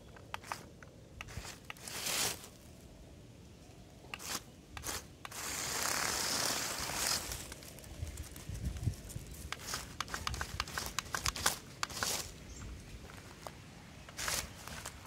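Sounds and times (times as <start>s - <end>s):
toy car crunching dry leaves: 0.2s - 2.8s, 4.2s - 15.0s.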